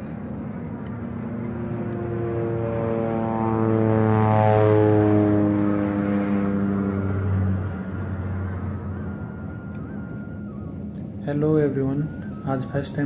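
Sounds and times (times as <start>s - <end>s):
jet engines hum from cabin: 0.0s - 13.0s.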